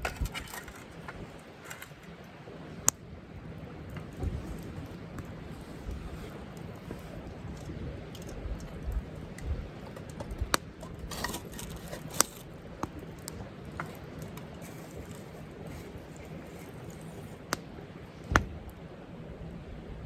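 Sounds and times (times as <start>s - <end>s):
campfire crackling and popping: 0.3s - 18.8s.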